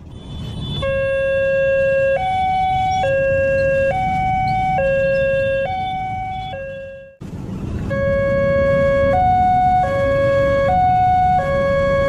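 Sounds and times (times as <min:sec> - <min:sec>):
two-tone crossing alarm: 0:00.2 - 0:07.2, 0:07.9 - 0:12.0.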